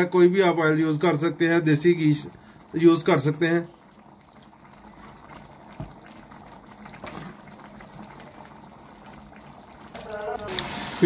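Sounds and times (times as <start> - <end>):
curry bubbling: 0.0 - 11.0.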